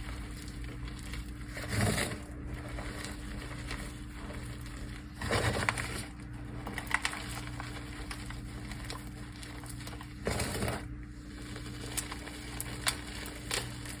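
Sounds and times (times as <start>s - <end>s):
crumbling pieces crackling: 0.0s - 14.0s
dried mud crunching: 0.0s - 14.0s.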